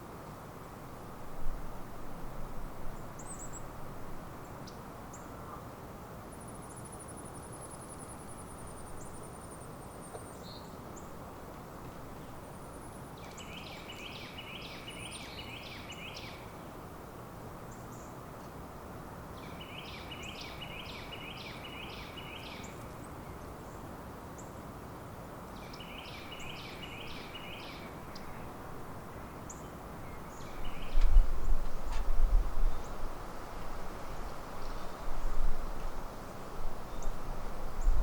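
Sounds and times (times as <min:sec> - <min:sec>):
outdoor background hiss: 0:00.0 - 0:38.0
songbird singing: 0:02.2 - 0:05.7, 0:06.3 - 0:16.8, 0:17.6 - 0:18.6, 0:19.2 - 0:24.8, 0:25.4 - 0:38.0.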